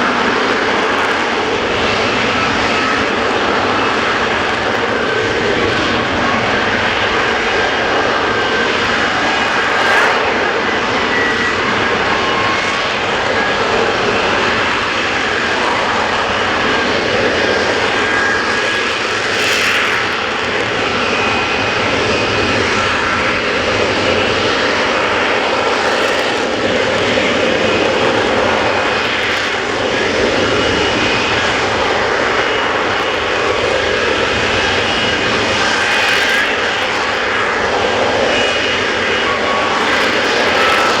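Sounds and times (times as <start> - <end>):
jet engine roaring: 0.0 - 41.0.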